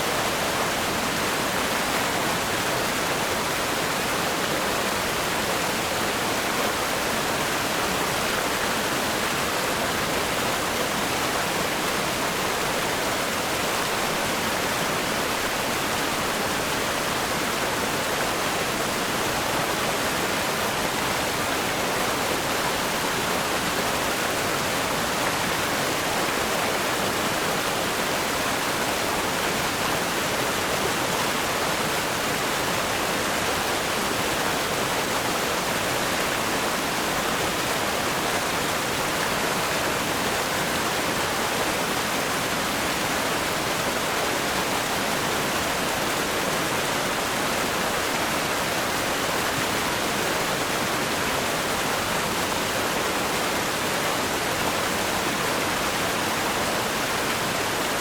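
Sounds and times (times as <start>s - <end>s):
river rapids rushing over rocks: 0.0s - 58.0s.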